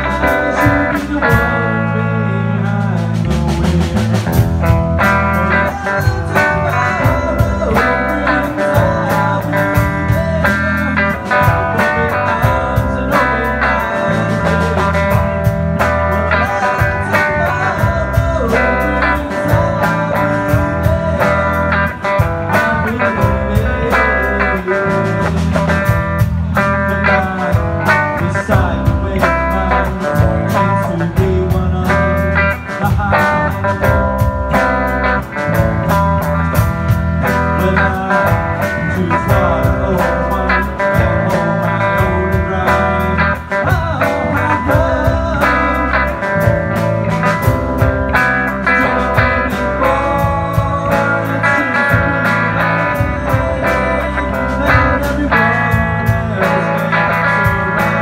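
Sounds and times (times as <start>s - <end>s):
live rock band playing: 0.0s - 58.0s
man singing lead vocal: 0.0s - 58.0s.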